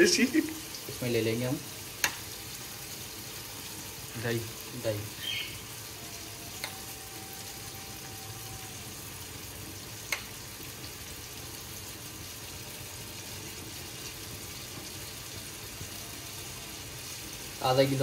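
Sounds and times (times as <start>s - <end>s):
food sizzling in pan: 0.0s - 18.0s.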